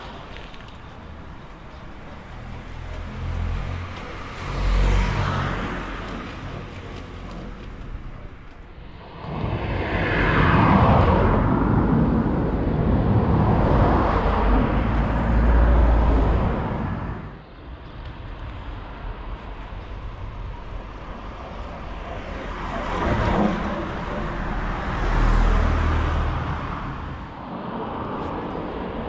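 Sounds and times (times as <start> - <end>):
steady roadside noise: 0.0 - 29.0
car passing by: 2.2 - 17.5, 18.5 - 29.0.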